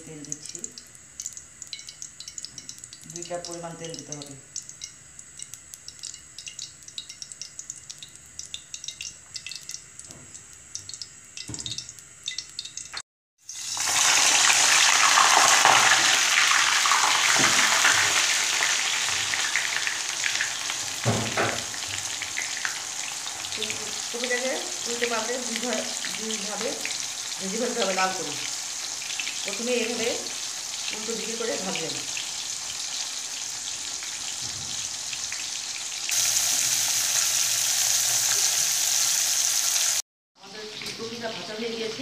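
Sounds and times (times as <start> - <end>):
cauliflower sizzling in hot oil: 0.0 - 40.0.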